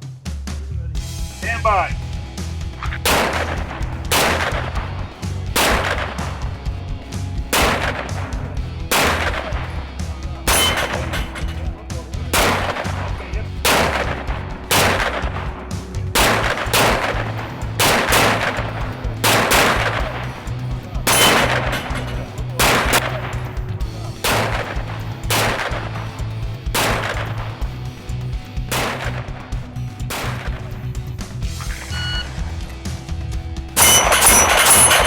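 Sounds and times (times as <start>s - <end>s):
pistol shots: 2.8s - 27.9s, 28.6s - 30.9s, 33.8s - 35.0s.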